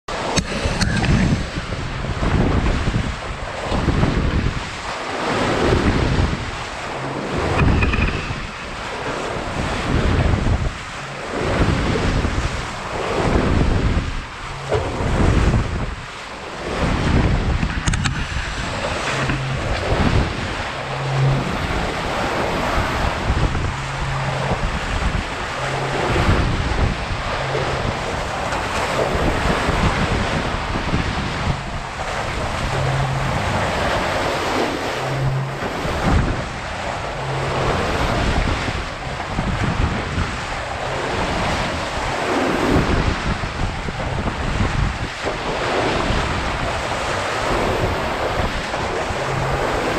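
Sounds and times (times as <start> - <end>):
waves washing: 0.1 - 49.9
wind buffeting microphone: 0.1 - 49.9.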